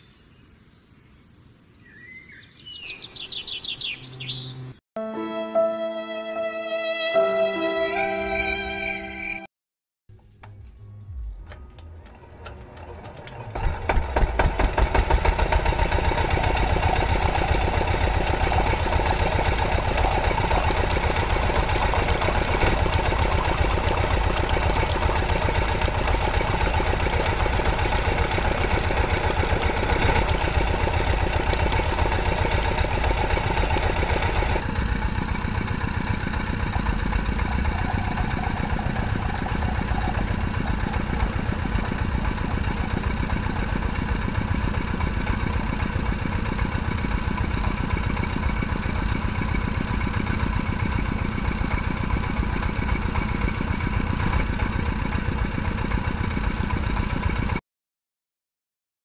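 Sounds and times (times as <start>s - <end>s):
diesel engine chugging: 10.2s - 57.6s.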